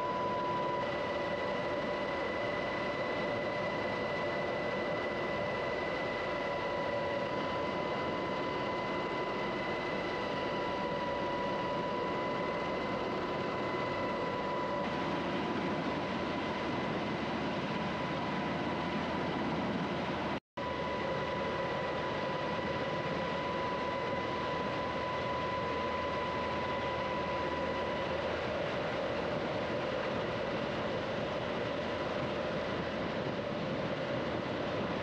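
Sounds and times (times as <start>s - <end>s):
aircraft engines running: 0.0s - 35.0s.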